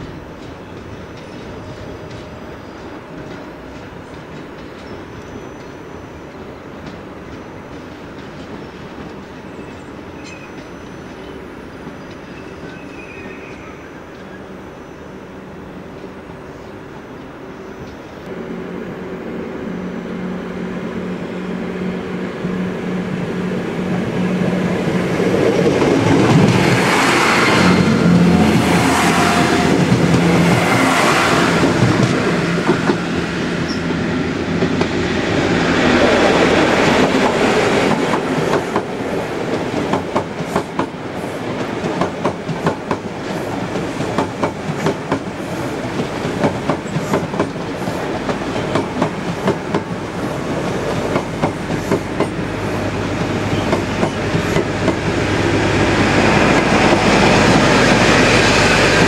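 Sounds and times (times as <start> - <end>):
train engine hum: 0.0 - 59.0.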